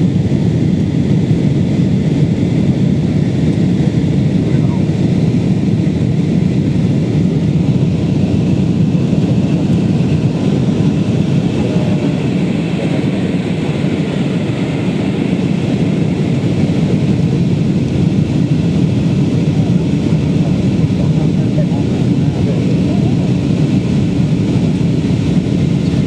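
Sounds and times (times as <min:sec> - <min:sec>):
jet engine noise: 0:00.0 - 0:26.0
rushing airflow: 0:00.0 - 0:26.0.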